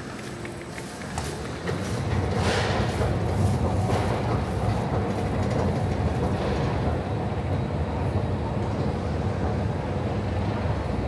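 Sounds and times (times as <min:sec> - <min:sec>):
escalator rumbling: 0:00.0 - 0:10.9.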